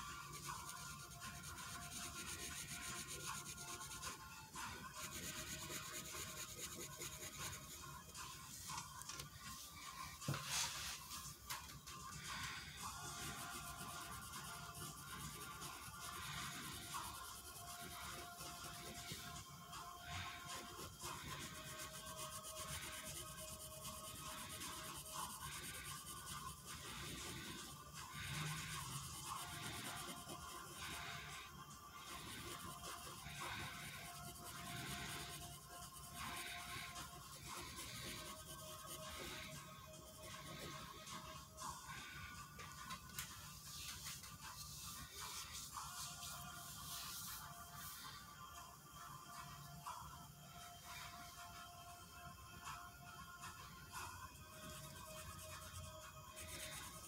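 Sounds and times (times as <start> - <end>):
marker scratching on paper: 0.0 - 48.2, 53.5 - 57.0.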